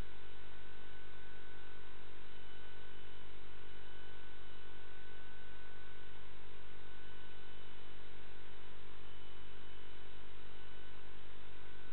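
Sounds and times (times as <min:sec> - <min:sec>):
electrical hum: 0:00.0 - 0:11.9.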